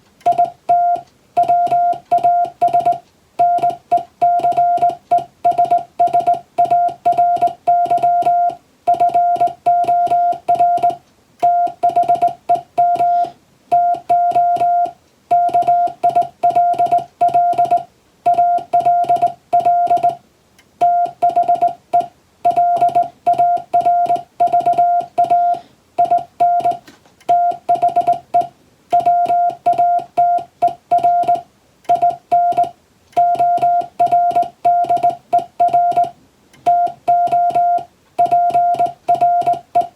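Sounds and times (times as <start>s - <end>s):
morse code beeps: 0.2s - 20.2s, 20.8s - 39.9s.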